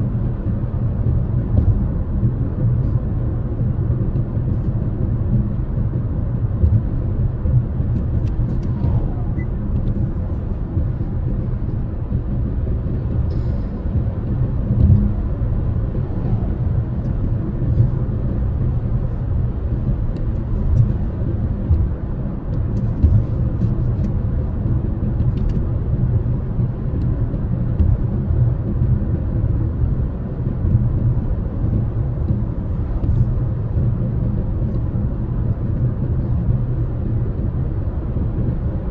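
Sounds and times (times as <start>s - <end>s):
car cabin road noise: 0.0s - 38.9s.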